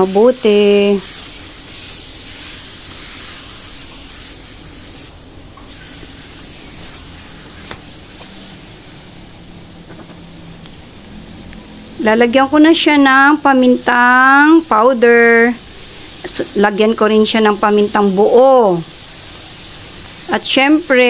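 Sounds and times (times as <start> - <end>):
meat sizzling in a pan: 0.0 - 10.3, 11.0 - 21.0.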